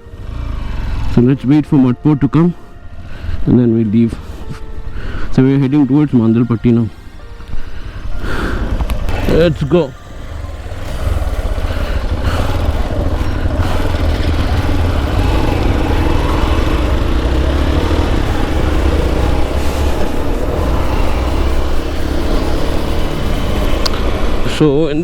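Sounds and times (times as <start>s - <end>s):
motorcycle engine riding off: 0.0s - 1.8s, 6.2s - 25.0s.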